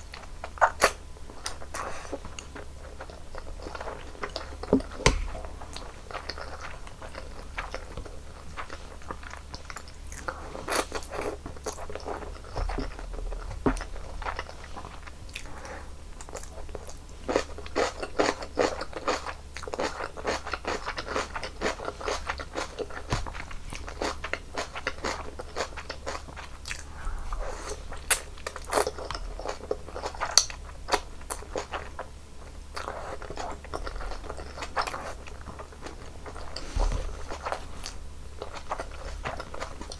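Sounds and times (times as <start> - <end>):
wet chewing with crunchy bites: 0.0 - 39.9.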